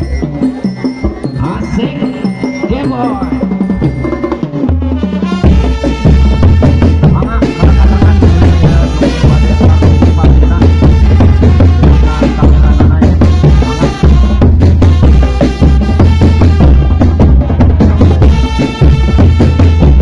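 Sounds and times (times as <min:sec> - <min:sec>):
drum band music: 0:00.0 - 0:20.0.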